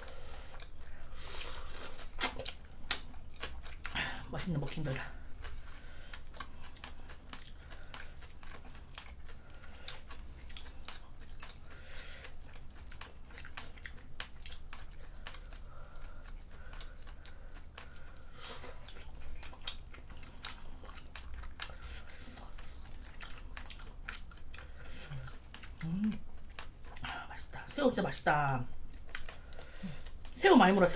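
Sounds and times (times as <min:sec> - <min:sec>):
close chewing and biting: 0:00.1 - 0:30.9.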